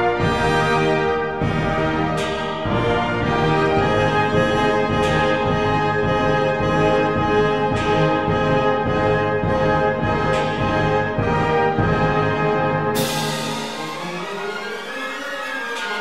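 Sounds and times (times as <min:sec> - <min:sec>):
orchestral music led by brass: 0:00.0 - 0:16.0.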